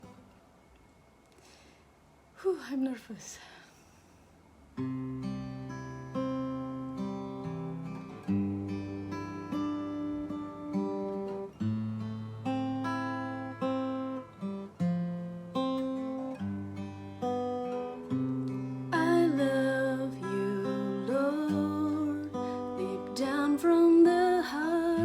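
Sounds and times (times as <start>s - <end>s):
acoustic guitar picking: 4.8s - 25.0s.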